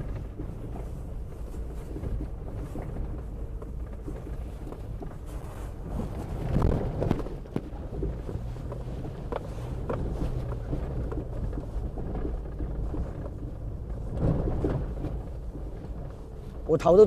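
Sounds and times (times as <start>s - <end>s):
suspension knocks: 0.0s - 16.7s
car engine and tyre rumble: 0.0s - 17.0s.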